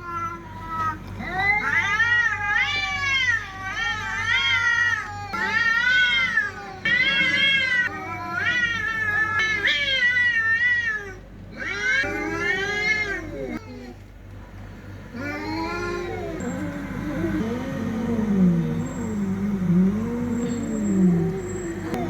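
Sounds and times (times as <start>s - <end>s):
cats yowling: 0.0s - 14.0s, 15.1s - 22.0s.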